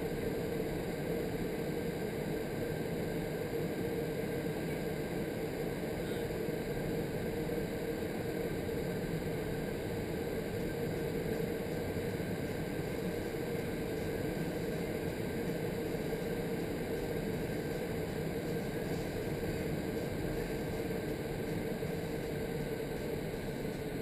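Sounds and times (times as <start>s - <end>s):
constant hum: 0.0s - 24.0s.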